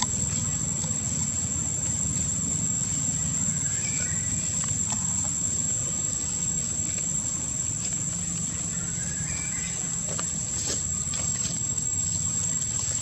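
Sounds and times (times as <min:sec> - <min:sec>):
high-pitched insect drone: 0:00.0 - 0:13.0
low steady rumble: 0:00.0 - 0:13.0.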